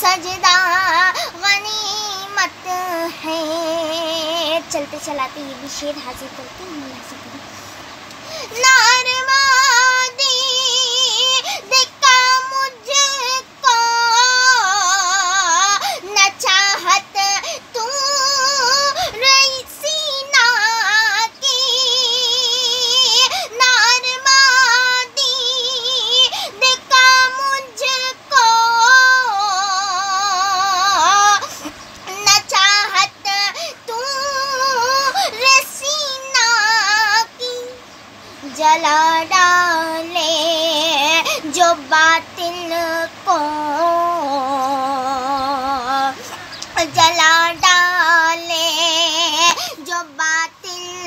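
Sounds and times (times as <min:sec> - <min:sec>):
woman singing with vibrato: 0:00.0 - 0:51.0.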